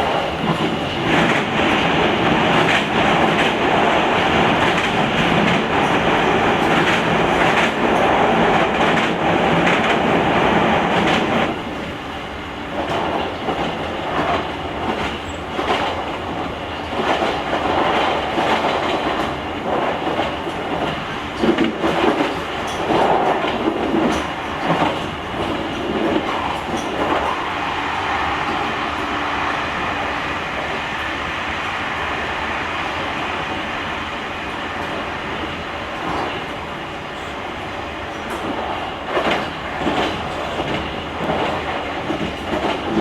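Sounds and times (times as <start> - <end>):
train wheel and rail rumble: 0.0 - 43.0.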